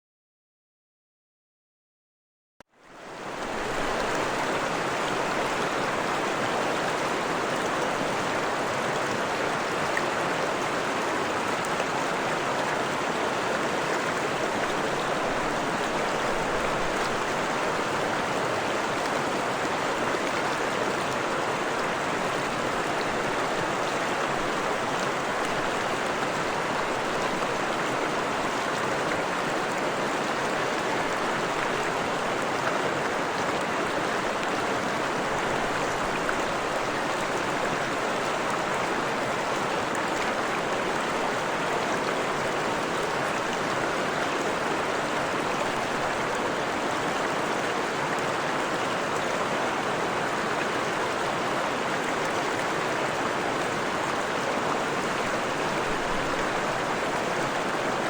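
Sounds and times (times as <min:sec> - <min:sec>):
stream flowing over rocks: 0:02.8 - 0:58.0.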